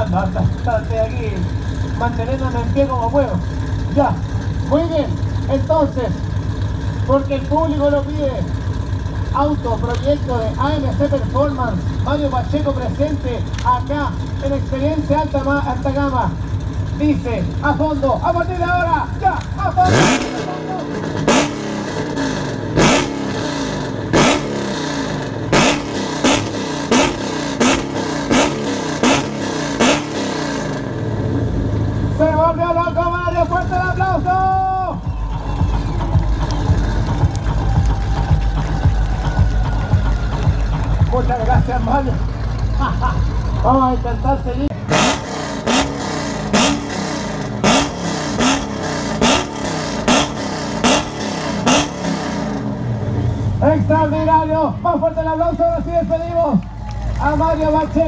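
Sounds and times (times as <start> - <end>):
car engine revving hard: 0.0 - 34.5, 35.3 - 54.8.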